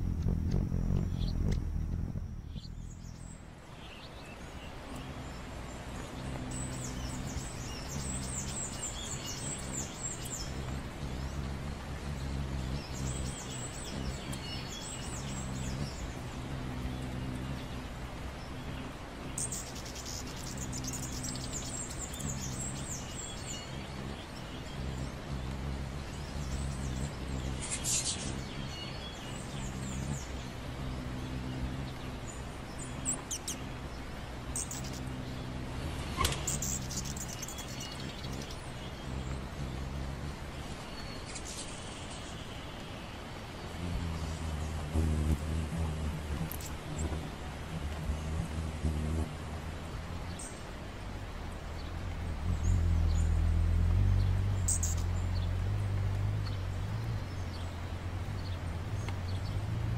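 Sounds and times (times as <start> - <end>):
hummingbird wings humming: 0.0 - 59.9
hummingbirds twittering: 0.0 - 59.9.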